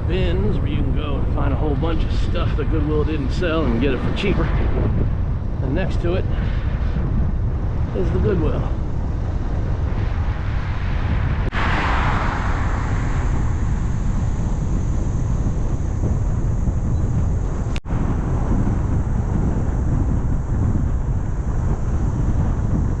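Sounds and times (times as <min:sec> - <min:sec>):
wind rumbling over microphone: 0:00.0 - 0:23.0.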